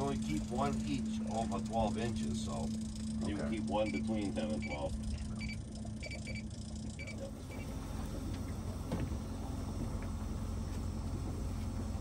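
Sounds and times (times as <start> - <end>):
boat motor low rumble: 0.0 - 12.0.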